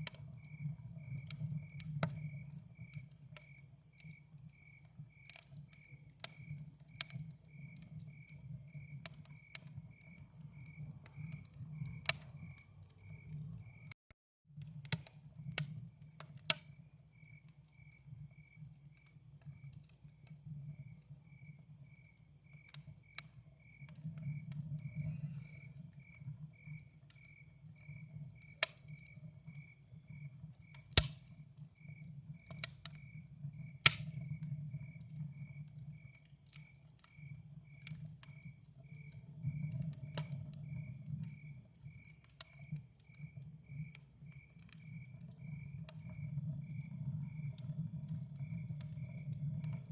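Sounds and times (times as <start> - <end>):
campfire crackling and popping: 0.0 - 13.9, 14.6 - 49.9
cricket chirping: 0.0 - 14.0, 15.4 - 49.9.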